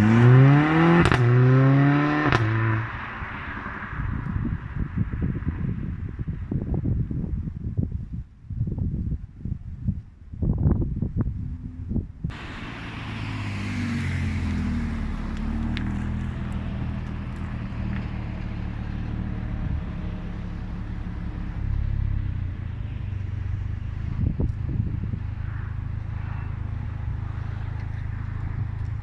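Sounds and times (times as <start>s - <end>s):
car engine droning: 0.0s - 6.4s, 11.0s - 29.0s
wind buffeting microphone: 0.0s - 29.0s.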